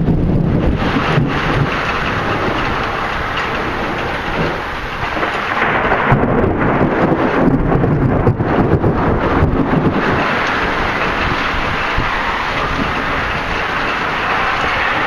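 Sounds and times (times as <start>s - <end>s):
deep rumble of thunder: 0.0s - 15.0s
rough crackling: 0.0s - 15.0s
wind rushing: 0.0s - 15.0s.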